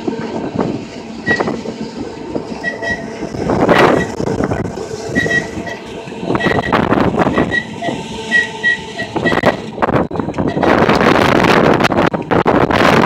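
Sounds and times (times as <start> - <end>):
tram wheels rumbling on track: 0.0 - 13.0.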